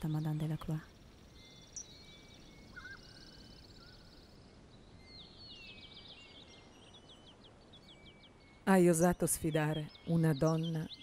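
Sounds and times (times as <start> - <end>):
birds chirping: 0.0 - 11.0
low steady hiss: 0.0 - 11.0.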